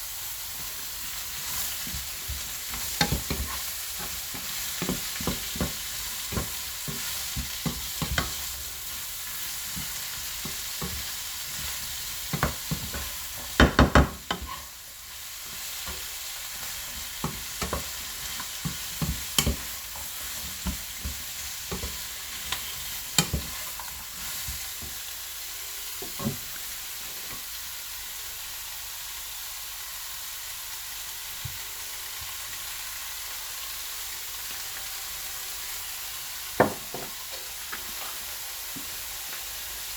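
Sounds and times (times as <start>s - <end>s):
stir-fry sizzling in a pan: 0.0s - 39.9s.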